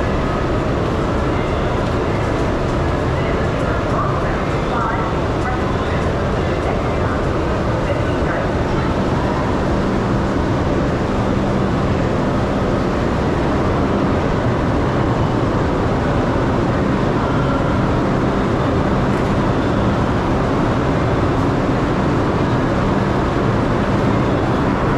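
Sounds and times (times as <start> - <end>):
subway train rumbling: 0.0 - 24.9.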